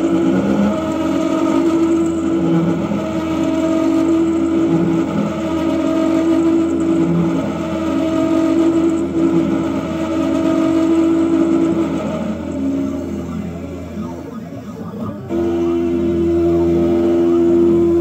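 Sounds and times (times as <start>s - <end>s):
milling spindle whining: 0.0s - 18.0s.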